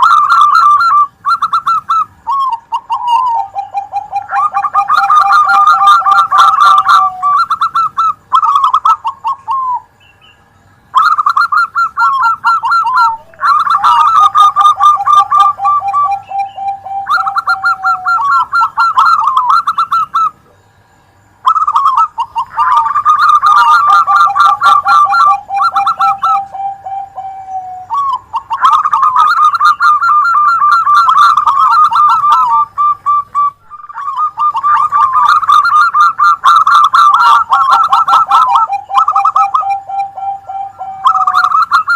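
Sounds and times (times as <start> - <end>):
doves cooing: 0.0 - 10.0, 10.9 - 20.8, 21.4 - 41.9.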